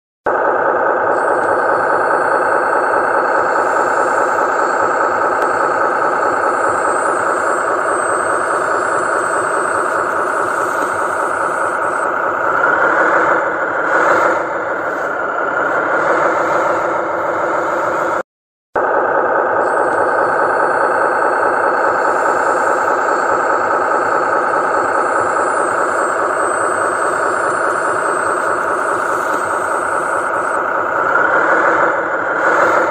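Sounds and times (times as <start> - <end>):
model truck motor whine and rattle: 0.3 - 18.2, 18.8 - 32.9.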